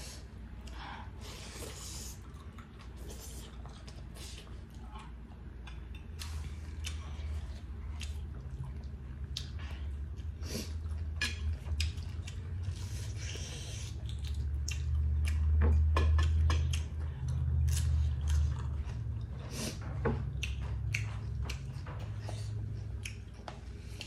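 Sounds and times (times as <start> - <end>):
steady low hum: 0.0 - 24.0
chewing: 0.5 - 24.0.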